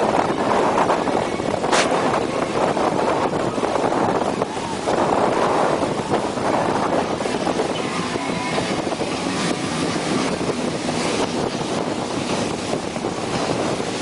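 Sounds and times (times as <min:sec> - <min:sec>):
boat engine noise: 0:00.0 - 0:14.0
water rushing along hull: 0:00.0 - 0:14.0
wind buffeting microphone: 0:00.0 - 0:14.0.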